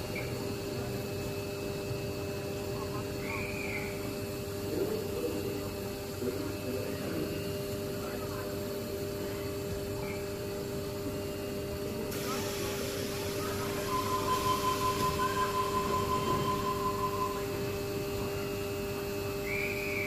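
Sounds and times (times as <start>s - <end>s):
droning hum: 0.0s - 20.0s
faint distant voices: 0.0s - 20.0s.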